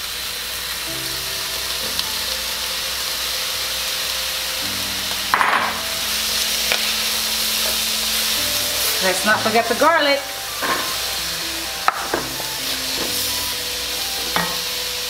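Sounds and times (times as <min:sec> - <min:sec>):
vegetables sizzling in a skillet: 0:00.0 - 0:15.0.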